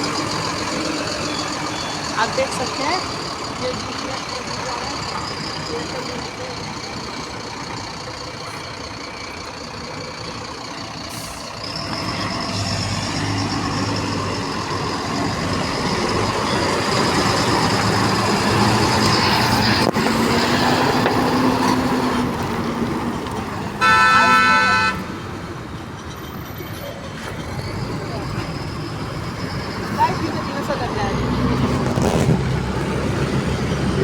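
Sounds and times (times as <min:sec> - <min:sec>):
heavy truck engine running: 0:00.0 - 0:34.0.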